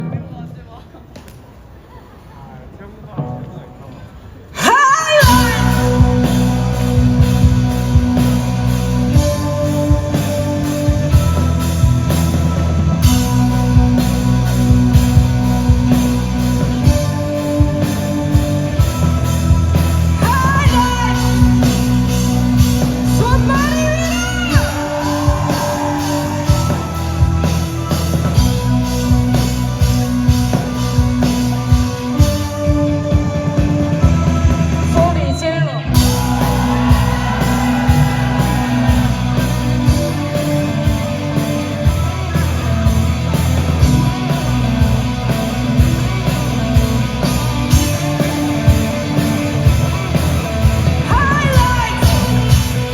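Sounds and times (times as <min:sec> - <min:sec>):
steady drum beat: 0:05.2 - 0:35.1, 0:36.0 - 0:52.9
rock band playing: 0:05.2 - 0:52.9.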